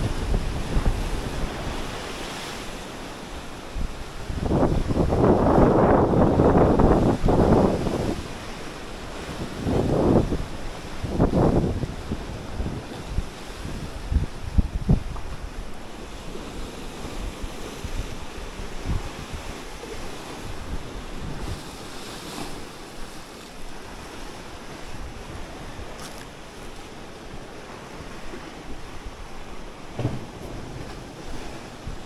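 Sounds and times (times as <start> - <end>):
waves washing against rocks: 0.0 - 32.0
wind rumbling on microphone: 0.0 - 32.0.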